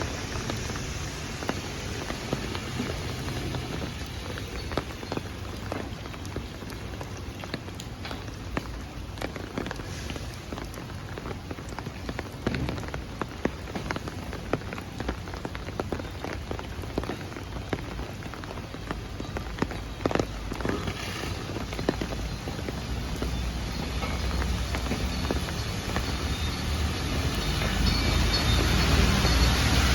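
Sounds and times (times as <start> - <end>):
rain pattering on hard surface: 0.0 - 29.9.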